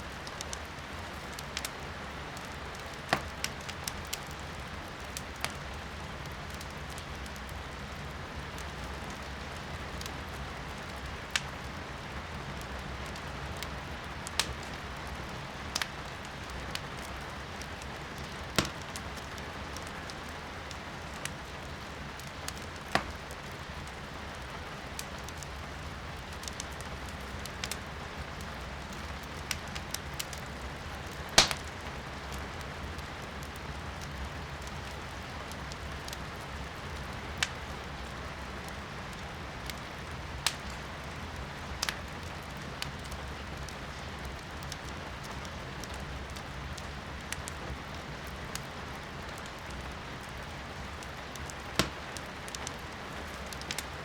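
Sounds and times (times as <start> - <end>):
firewood crackling and popping: 0.0 - 54.0
rain hiss heard from indoors: 0.0 - 54.0.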